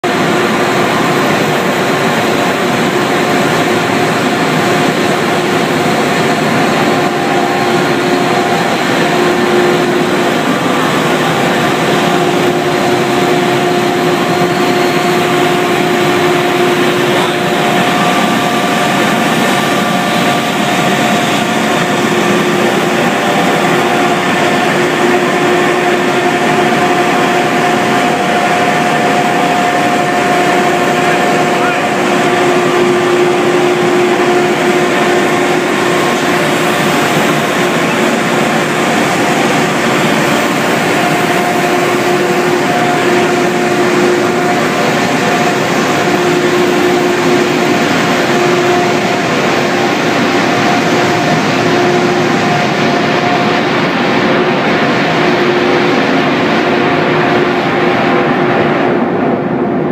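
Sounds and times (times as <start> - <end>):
extrusion machinery running: 0.0 - 59.9.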